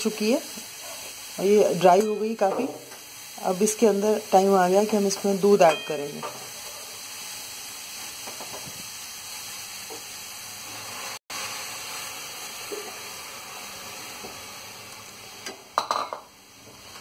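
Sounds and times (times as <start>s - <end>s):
carrots sizzling in a pan: 0.0s - 17.0s.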